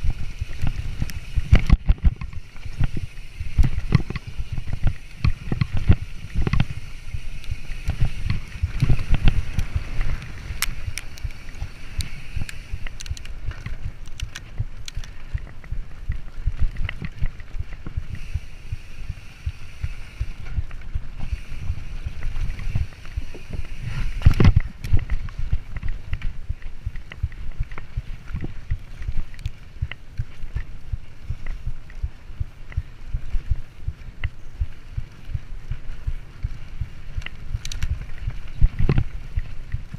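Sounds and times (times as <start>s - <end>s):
bike rattles and clicks: 0.0s - 39.9s
wind rumble on microphone: 0.0s - 39.9s.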